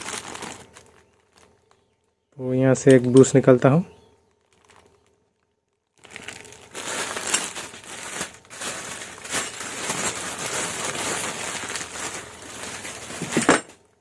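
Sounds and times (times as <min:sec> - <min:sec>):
packet crinkling and rustling: 0:00.0 - 0:13.6.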